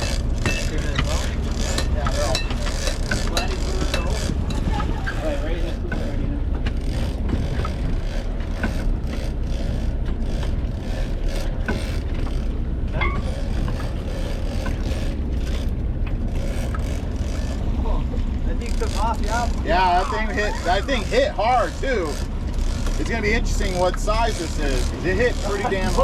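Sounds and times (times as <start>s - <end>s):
boat engine low rumble: 0.0s - 26.0s.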